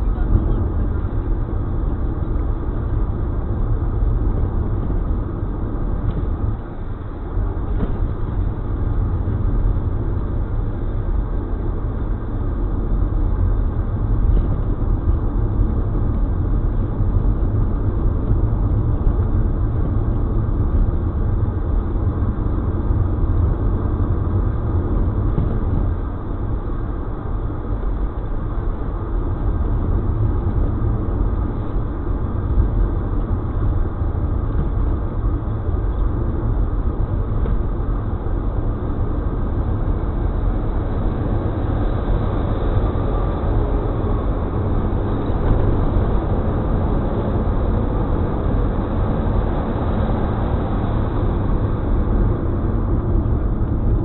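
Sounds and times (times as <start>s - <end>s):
road and engine rumble in car: 0.0s - 54.0s.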